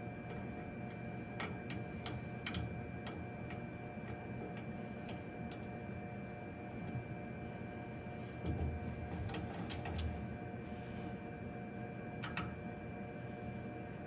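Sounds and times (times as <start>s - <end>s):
steady hum with faint tones: 0.0s - 14.0s.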